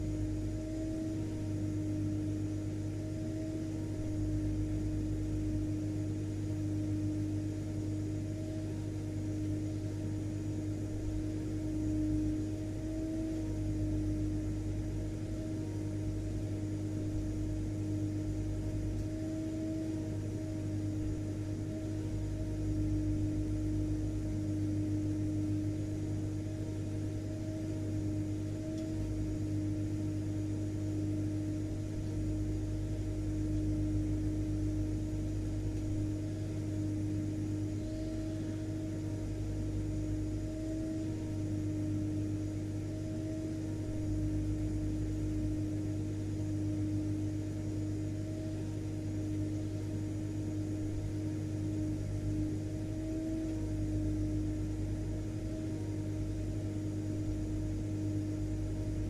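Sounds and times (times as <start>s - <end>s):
vacuum cleaner running: 0.0s - 14.3s, 17.9s - 59.0s.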